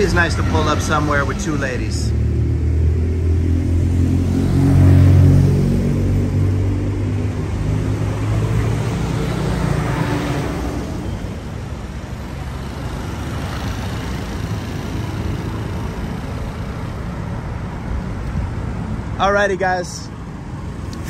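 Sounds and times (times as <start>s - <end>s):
car engine humming: 0.0s - 19.2s
street traffic: 0.0s - 21.0s.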